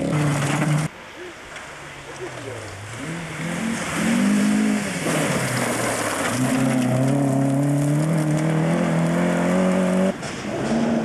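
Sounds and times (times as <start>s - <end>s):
rally car engine accelerating: 2.1s - 11.0s.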